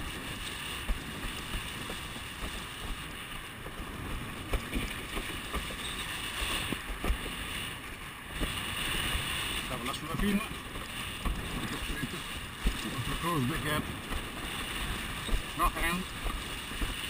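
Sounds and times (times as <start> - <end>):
water rushing past board: 0.0 - 17.0
wind buffeting microphone: 0.0 - 17.0.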